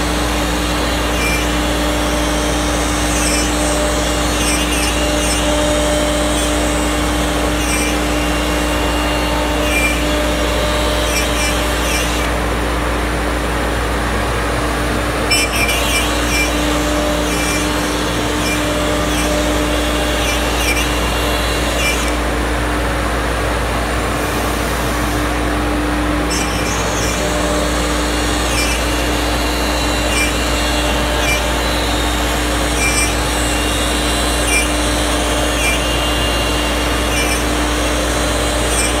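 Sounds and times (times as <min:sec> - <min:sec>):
cnc router spindle whine: 0:00.0 - 0:39.0.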